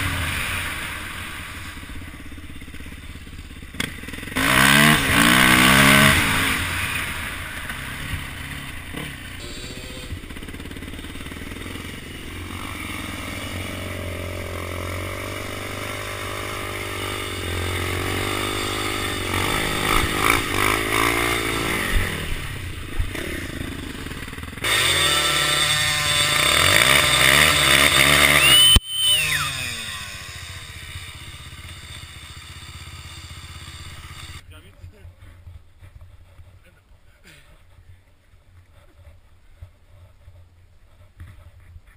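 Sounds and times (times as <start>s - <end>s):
dirt bike engines revving: 0.0s - 39.2s.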